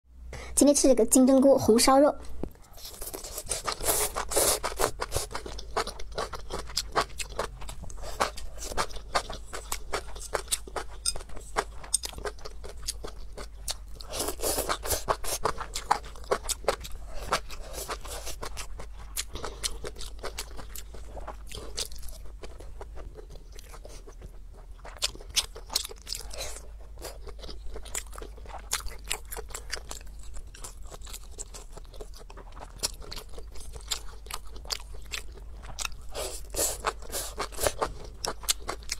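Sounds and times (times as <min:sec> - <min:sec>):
person chewing food: 0:02.3 - 0:38.9.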